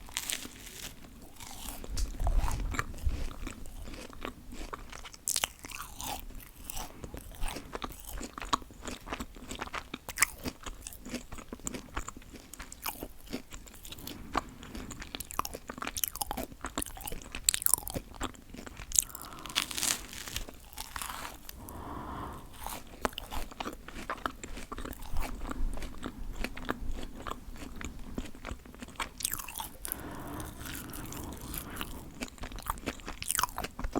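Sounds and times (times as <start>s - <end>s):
person chewing bread: 0.0s - 33.9s.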